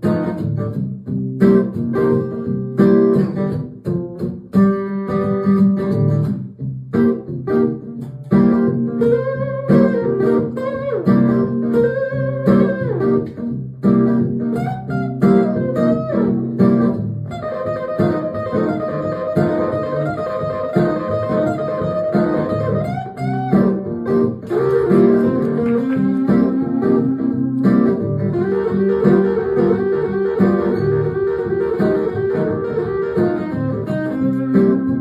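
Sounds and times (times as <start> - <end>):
blues guitar playing: 0.0 - 35.0.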